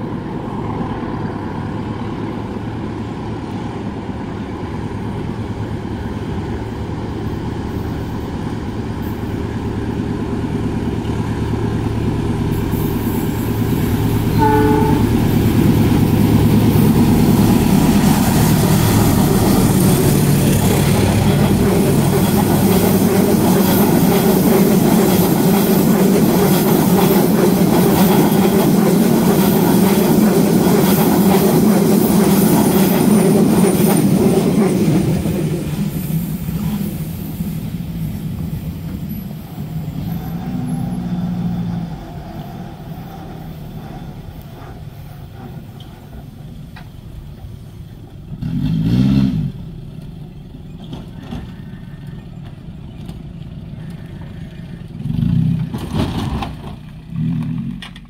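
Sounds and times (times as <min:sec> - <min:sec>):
train rumbling and clattering past: 0:00.0 - 0:58.0.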